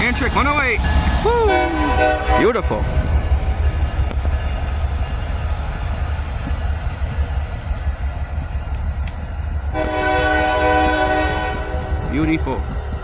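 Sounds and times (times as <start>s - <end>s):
diesel train rumbling past: 0.0s - 13.0s.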